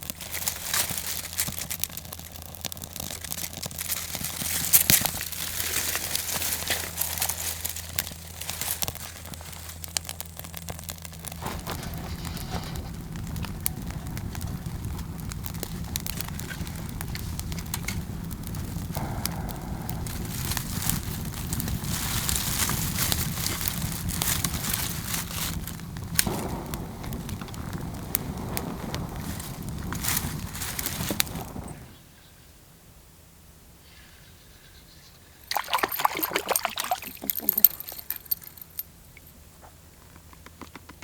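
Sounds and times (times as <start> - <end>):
campfire crackling and popping: 0.0 - 32.0, 35.4 - 39.3.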